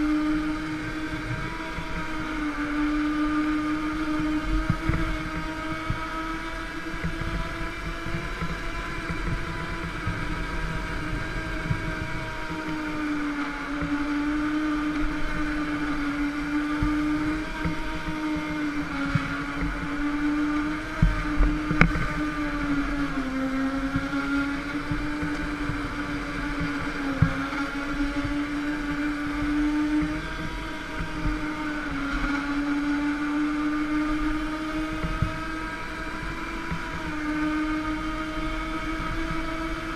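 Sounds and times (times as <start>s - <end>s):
go-kart drive hum: 0.0s - 39.9s.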